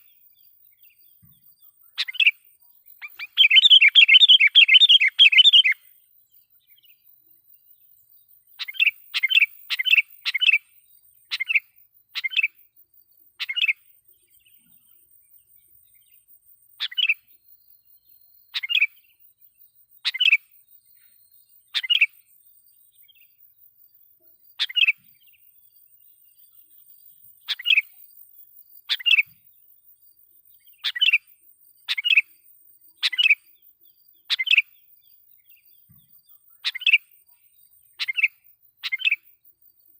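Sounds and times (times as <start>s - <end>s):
bird chirping calls: 0.0s - 23.4s, 24.1s - 29.7s, 30.4s - 39.4s.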